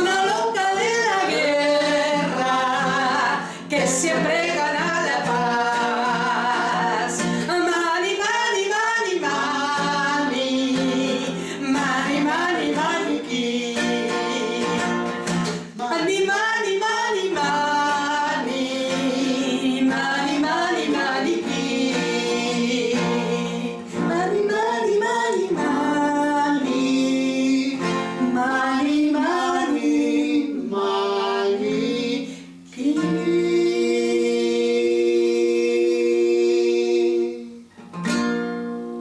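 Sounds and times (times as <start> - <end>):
person singing long notes: 0.0 - 37.7
music: 0.0 - 39.0.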